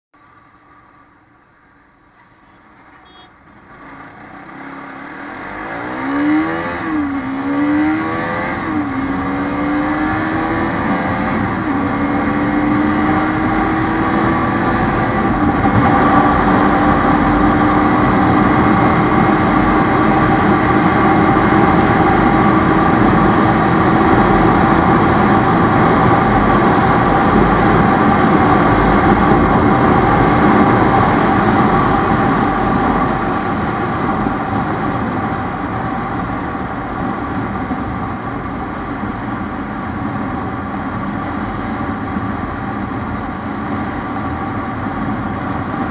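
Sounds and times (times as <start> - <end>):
motorcycle engine accelerating: 2.9 - 45.9.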